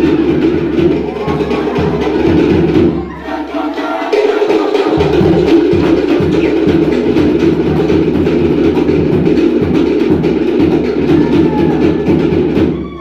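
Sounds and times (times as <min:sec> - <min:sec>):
live band music with fast percussion: 0:00.0 - 0:13.0.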